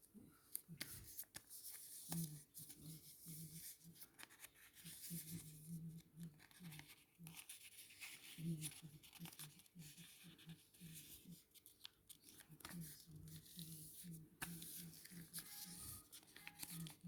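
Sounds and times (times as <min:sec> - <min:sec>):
paper rustling and crinkling: 0:00.5 - 0:17.0.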